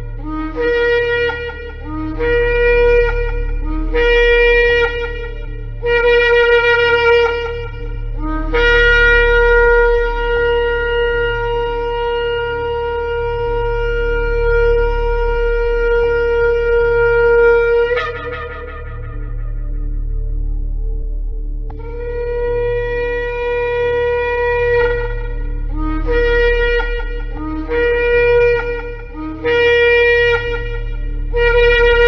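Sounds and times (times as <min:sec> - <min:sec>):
shofar blasts: 0:00.0 - 0:20.6, 0:21.7 - 0:32.0
steady low hum: 0:00.0 - 0:32.0.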